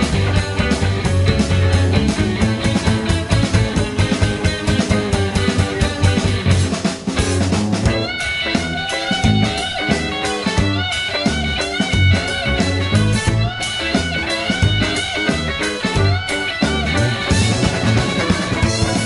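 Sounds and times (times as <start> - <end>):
bending electric guitar notes: 0.0 - 19.0
live rock band playing: 0.0 - 19.0
steady drumming: 0.0 - 19.0.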